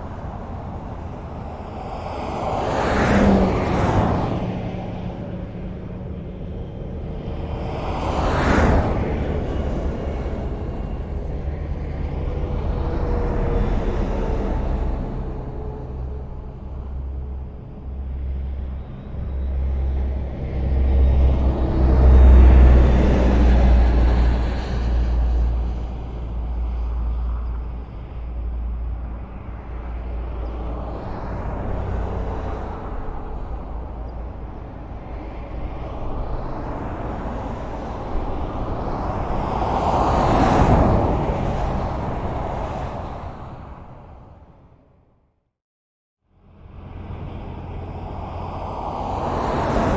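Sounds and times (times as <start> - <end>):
highway traffic passing: 0.0 - 45.2, 46.3 - 49.9.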